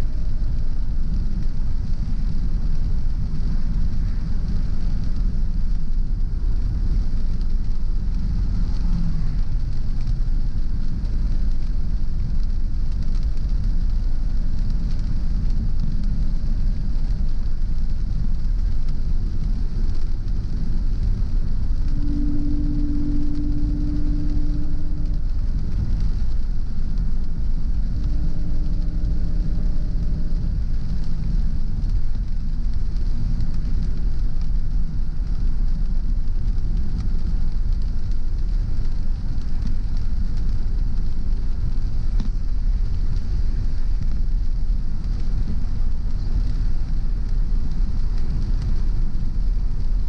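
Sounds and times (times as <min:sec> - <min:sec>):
low engine hum: 0:00.0 - 0:50.0
rain: 0:00.0 - 0:50.0
tyre hiss on wet road: 0:00.0 - 0:50.0.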